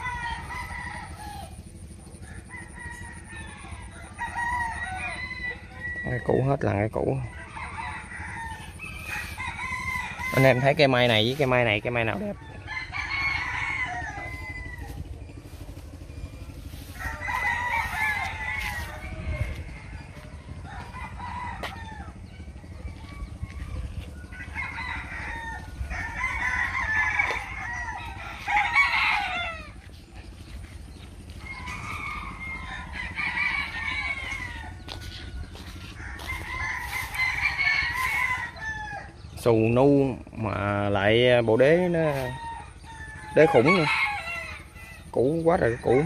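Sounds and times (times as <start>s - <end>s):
chickens clucking and crowing: 0.0s - 46.0s
steady low hum: 0.0s - 46.0s.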